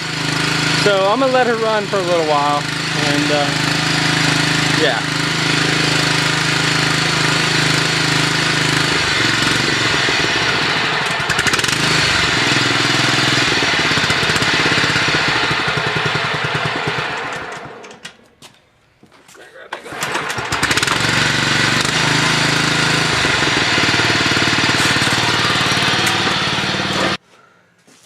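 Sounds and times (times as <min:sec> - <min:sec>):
lawn mower engine running: 0:00.0 - 0:18.3, 0:19.9 - 0:27.2.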